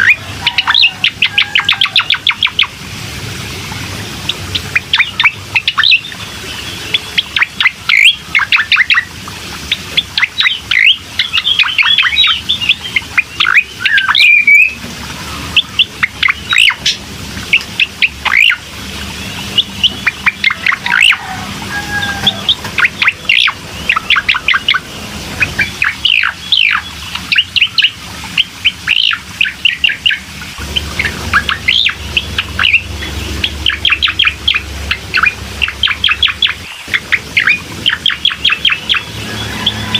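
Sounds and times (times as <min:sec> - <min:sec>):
recorded birdsong with sharp chirps: 0:00.0 - 0:39.9.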